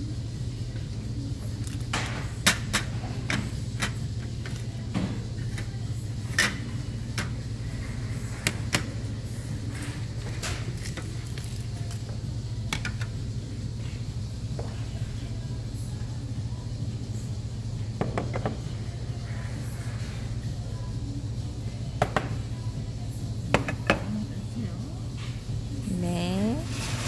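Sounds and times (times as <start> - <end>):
steady low hum: 0.0 - 26.7.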